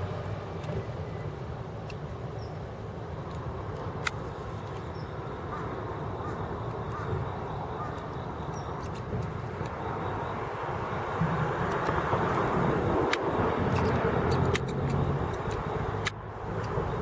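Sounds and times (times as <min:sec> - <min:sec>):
distant traffic: 0:00.0 - 0:17.0.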